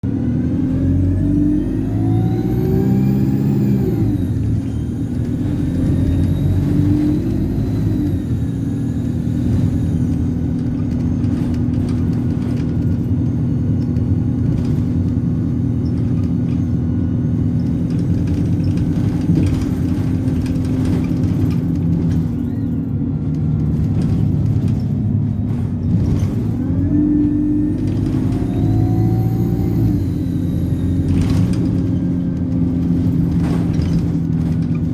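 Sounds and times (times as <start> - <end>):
bus diesel engine: 0.0 - 34.9.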